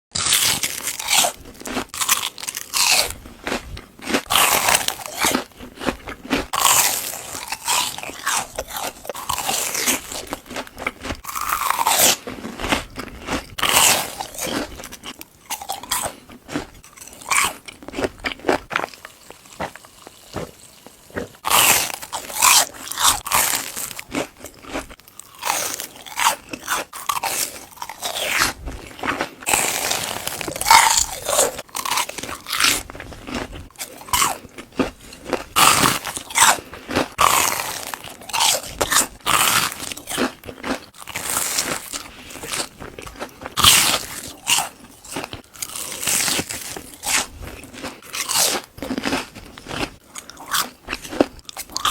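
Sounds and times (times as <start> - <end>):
crunching fried food: 0.1 - 51.9.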